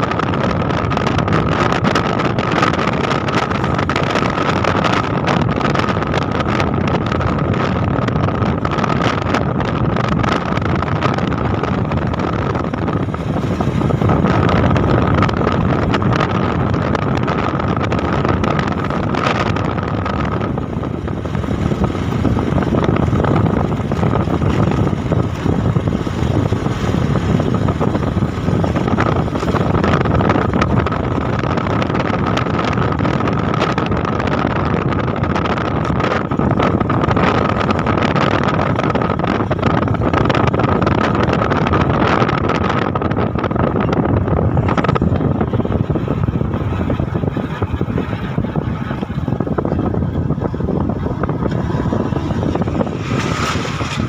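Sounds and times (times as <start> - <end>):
motorbike engine running: 0.0 - 54.0
wind buffeting microphone: 0.0 - 54.0.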